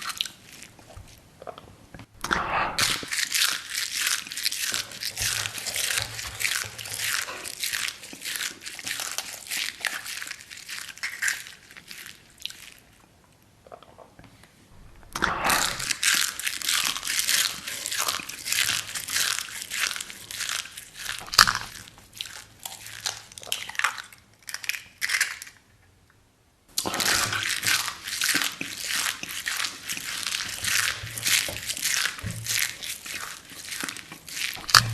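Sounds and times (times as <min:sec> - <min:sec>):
crunching and chewing: 0:00.0 - 0:25.7, 0:26.7 - 0:34.9.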